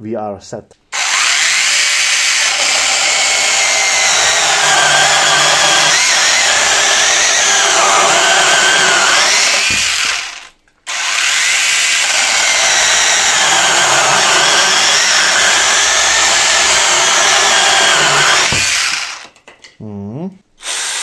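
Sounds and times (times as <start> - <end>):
chainsaw cutting wood: 1.0 - 19.4.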